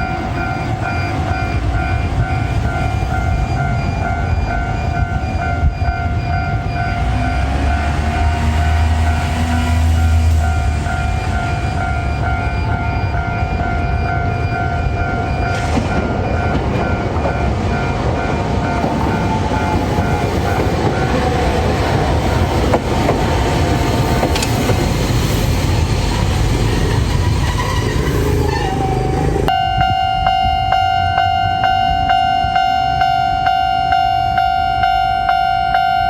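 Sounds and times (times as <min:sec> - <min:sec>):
crossing warning bell pulsing: 0:00.0 - 0:25.8, 0:28.4 - 0:36.0
tram rumbling: 0:00.0 - 0:36.0.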